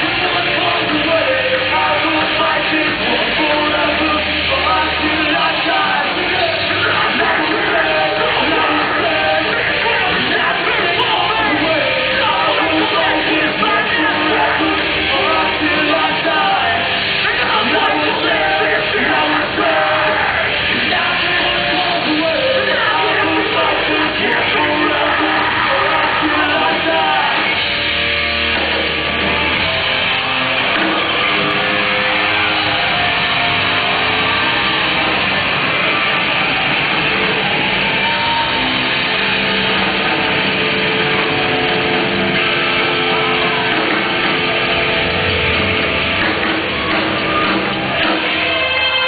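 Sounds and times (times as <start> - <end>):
bass guitar: 0.0 - 49.0
distorted electric guitars: 0.0 - 49.0
drums: 0.0 - 49.0
shouted vocals: 0.0 - 49.0.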